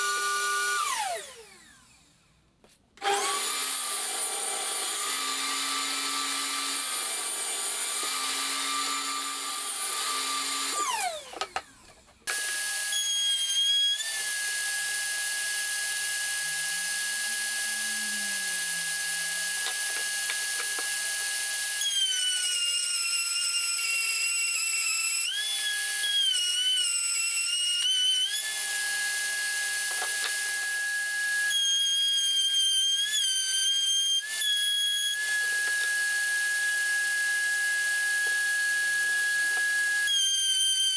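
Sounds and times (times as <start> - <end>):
router whining cutting wood: 0.0 - 2.2, 3.0 - 40.9
table saw running and winding down: 0.0 - 2.3, 3.0 - 40.9.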